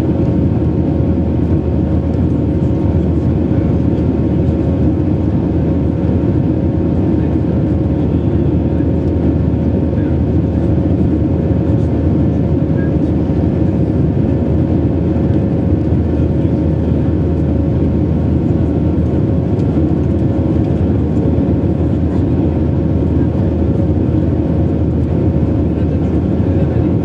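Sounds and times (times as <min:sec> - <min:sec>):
jet engines droning: 0:00.0 - 0:27.0.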